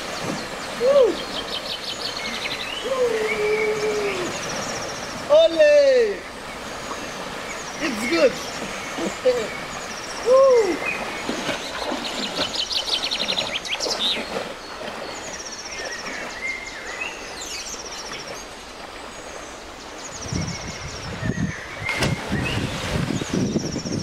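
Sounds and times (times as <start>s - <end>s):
river water rushing: 0.0s - 24.0s
songbirds trilling: 0.0s - 24.0s.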